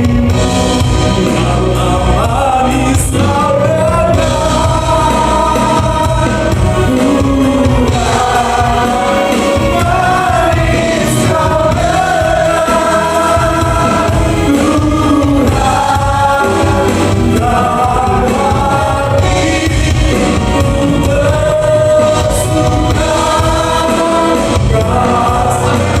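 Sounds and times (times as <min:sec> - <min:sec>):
gospel choir singing: 0:00.0 - 0:26.0
instrumental accompaniment: 0:00.0 - 0:26.0.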